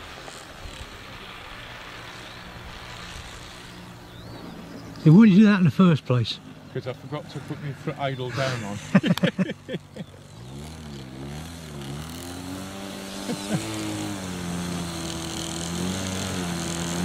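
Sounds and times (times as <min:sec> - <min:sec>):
model aircraft engine running: 0:00.0 - 0:17.0.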